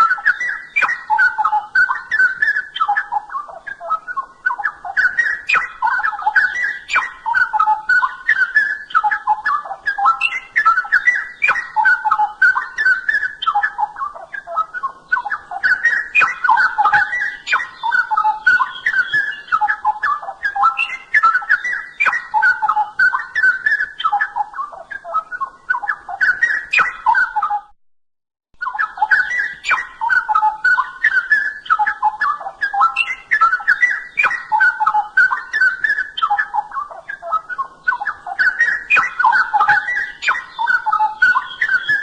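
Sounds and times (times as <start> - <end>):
bird singing bubbling whistles: 0.0 - 27.7, 28.6 - 42.0.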